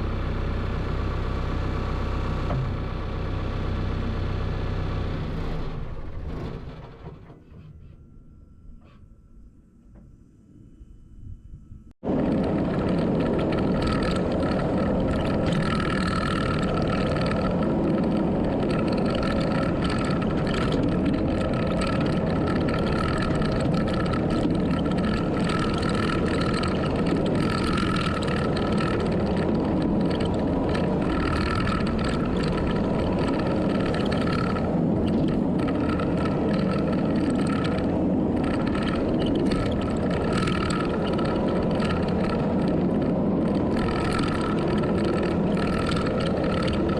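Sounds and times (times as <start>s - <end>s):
vehicle engine running: 0.0s - 7.9s, 12.0s - 46.9s.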